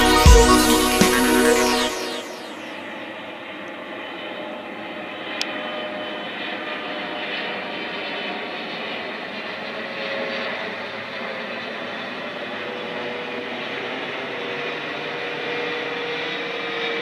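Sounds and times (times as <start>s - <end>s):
jet engines roaring overhead: 0.0s - 17.0s.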